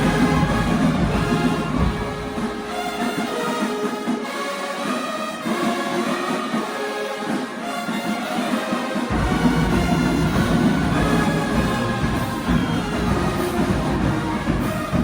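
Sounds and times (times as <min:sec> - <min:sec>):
school band playing: 0:00.0 - 0:15.0.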